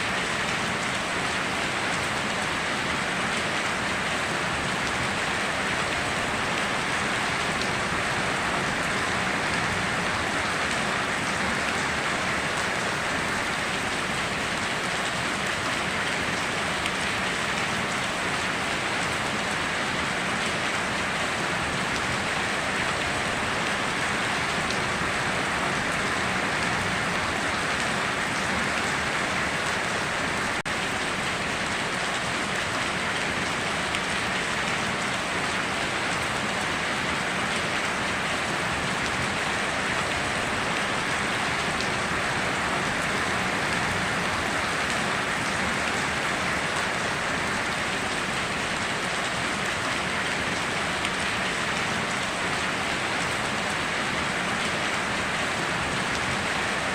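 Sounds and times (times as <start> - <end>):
rain pattering on surfaces: 0.0 - 56.9.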